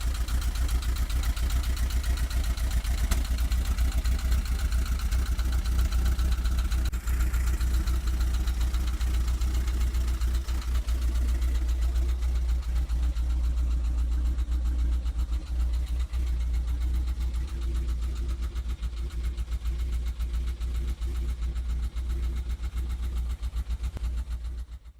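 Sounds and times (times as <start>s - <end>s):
engine running with low rumble: 0.0s - 24.9s.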